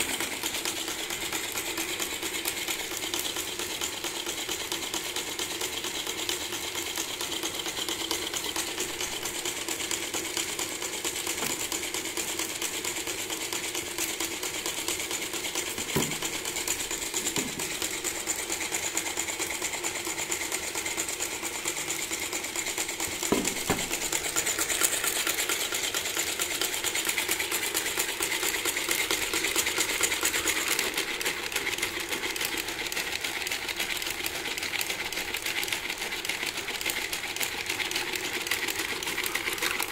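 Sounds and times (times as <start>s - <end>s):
plastic engine model clicking clatter: 0.0s - 39.9s.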